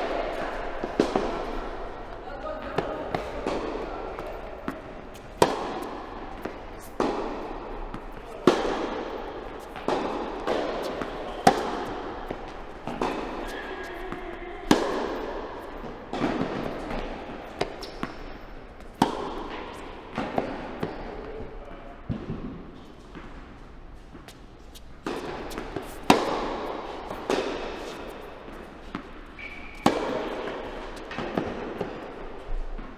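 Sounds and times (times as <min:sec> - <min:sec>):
tennis ball hits echoing: 0:00.0 - 0:23.3, 0:25.0 - 0:32.9.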